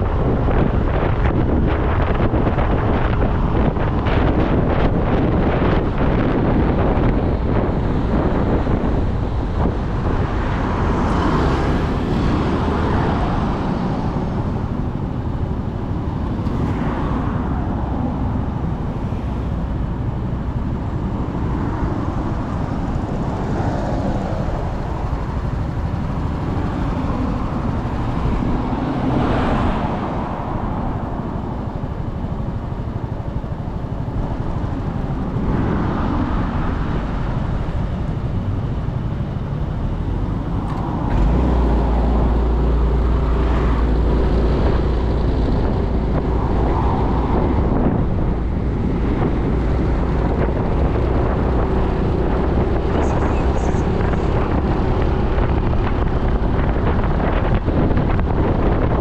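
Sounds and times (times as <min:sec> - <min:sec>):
motorcycle engine rumble: 0:00.0 - 0:59.0
wind on microphone: 0:00.0 - 0:59.0.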